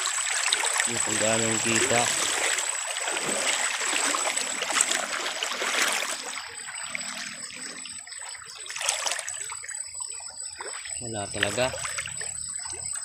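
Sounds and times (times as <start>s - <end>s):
water splashing as someone wades: 0.0s - 13.0s.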